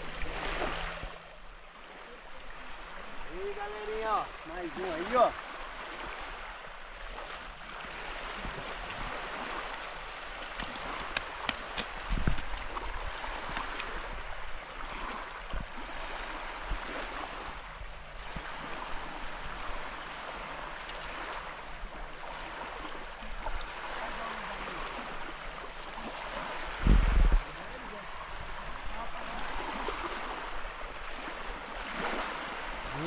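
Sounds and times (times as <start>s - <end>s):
flowing river water: 0.0s - 33.0s.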